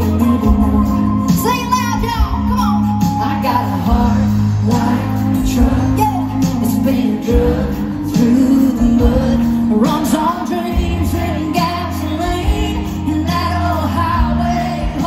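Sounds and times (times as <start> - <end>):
live country band playing: 0.0 - 15.0.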